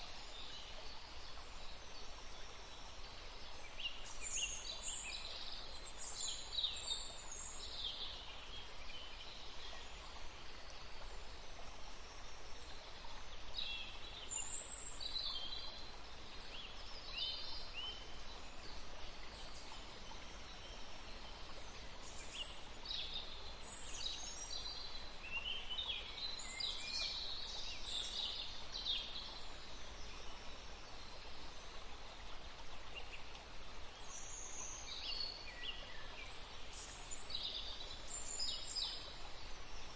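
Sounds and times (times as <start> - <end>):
outdoor ambience hiss: 0.0 - 39.9.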